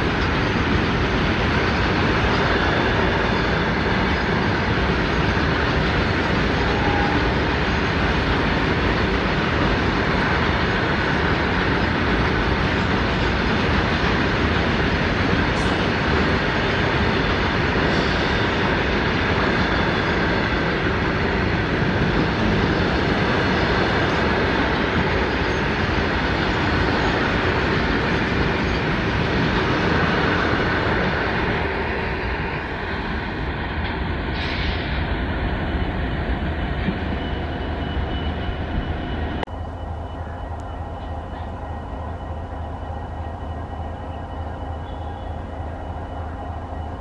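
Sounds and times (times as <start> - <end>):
freight train rumbling past: 0.0 - 47.0.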